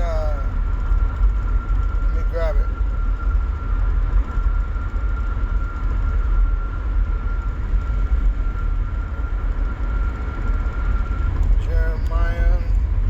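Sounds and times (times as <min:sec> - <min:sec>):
high-pitched whine: 0:00.0 - 0:13.0
vehicle road and engine rumble: 0:00.0 - 0:13.0.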